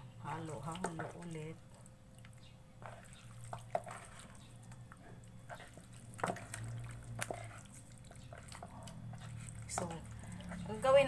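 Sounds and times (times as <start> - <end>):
hands squelching wet marinade: 0.2 - 11.0.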